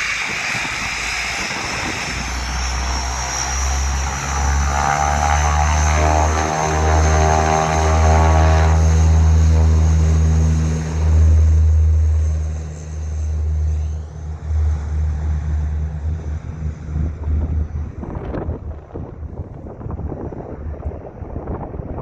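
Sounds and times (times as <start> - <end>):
propeller airliner engine drone: 0.0 - 22.0
wind buffeting microphone: 0.0 - 22.0.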